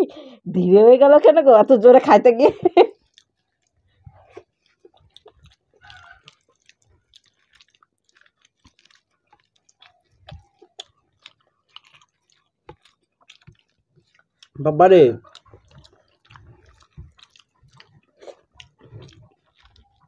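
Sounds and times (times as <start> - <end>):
wet chewing and lip-smacking: 2.9 - 20.0.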